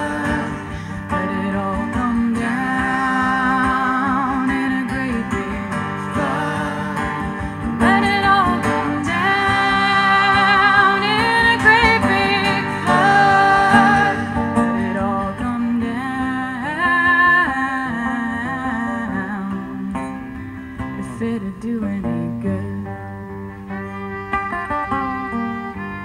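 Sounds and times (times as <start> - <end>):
person singing with vibrato: 0.0 - 23.4
acoustic guitar: 0.0 - 26.0.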